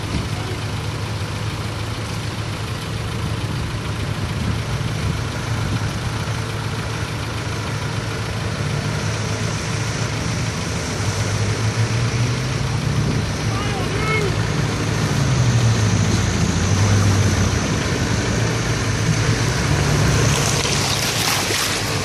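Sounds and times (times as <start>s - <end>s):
car engine running at low revs: 0.0s - 22.0s.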